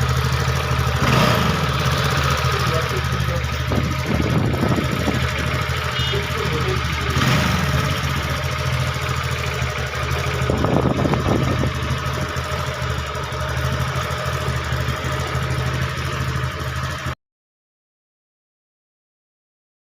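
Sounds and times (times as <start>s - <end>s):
scooter engine idling: 0.0s - 17.2s.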